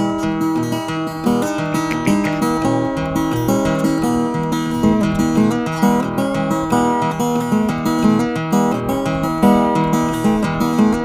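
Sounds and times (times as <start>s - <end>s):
solo acoustic guitar: 0.0s - 11.0s.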